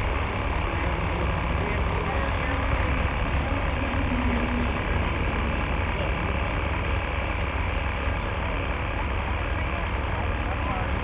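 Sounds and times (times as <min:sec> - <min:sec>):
jet engines rumbling overhead: 0:00.0 - 0:11.0.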